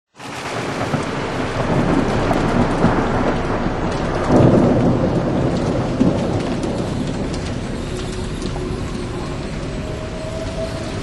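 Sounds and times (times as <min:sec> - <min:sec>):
heavy rain falling: 0:00.2 - 0:11.0
rumbling thunder: 0:00.2 - 0:11.0.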